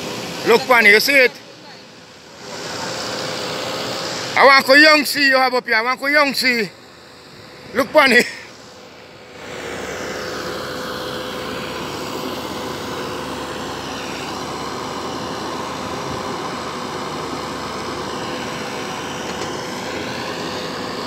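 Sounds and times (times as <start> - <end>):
concrete pump engine droning: 0.0 - 21.0.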